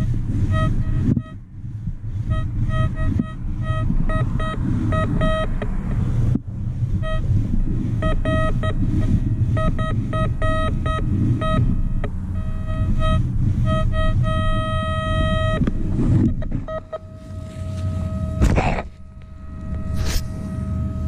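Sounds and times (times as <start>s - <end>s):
metal detector beeps: 0.0s - 1.4s, 2.3s - 5.7s, 8.0s - 21.0s
low steady rumble: 0.0s - 21.0s.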